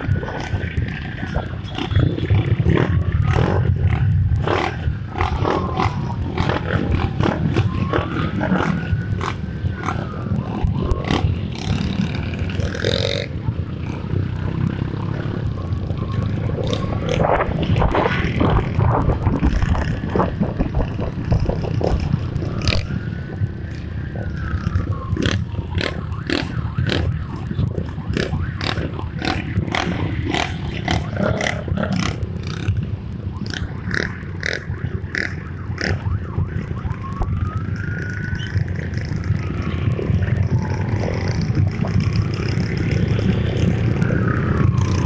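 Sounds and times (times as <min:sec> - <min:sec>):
motorcycle engines running: 0:00.0 - 0:45.0.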